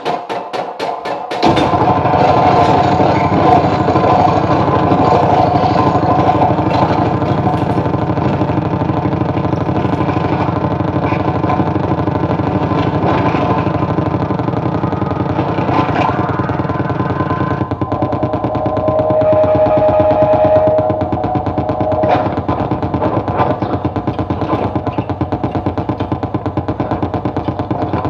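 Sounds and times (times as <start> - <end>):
distorted electronic noise: 1.4 - 28.0
steady pitched tones: 1.9 - 27.7.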